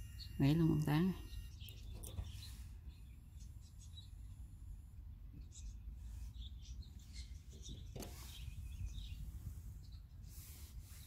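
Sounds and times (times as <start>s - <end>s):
bird chirps: 0.0s - 4.5s, 5.3s - 10.3s.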